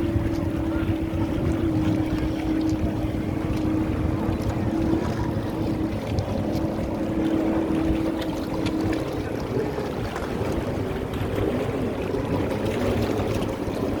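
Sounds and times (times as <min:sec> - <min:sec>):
sea water: 0:00.0 - 0:14.0
wind: 0:00.0 - 0:14.0.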